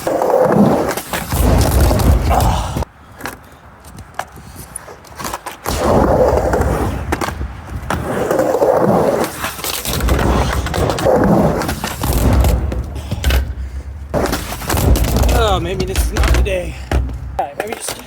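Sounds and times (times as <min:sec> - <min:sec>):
skateboard clicks and knocks: 0:00.0 - 0:18.0
skateboard wheels rolling on ramp: 0:00.0 - 0:18.0.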